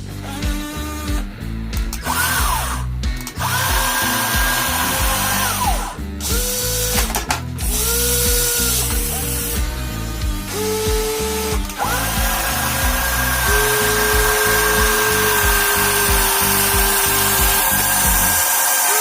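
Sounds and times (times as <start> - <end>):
background music: 0.0 - 19.0
toy car gear motors whining: 0.0 - 19.0.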